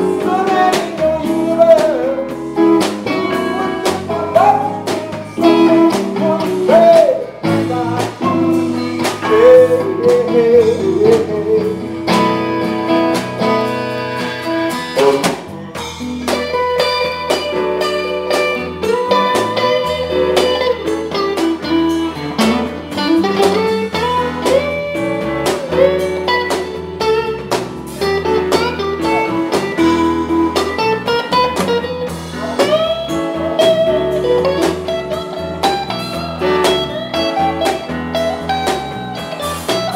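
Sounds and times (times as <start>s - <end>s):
blues band playing: 0.0s - 39.9s
electric guitar lead bending notes: 0.0s - 39.9s.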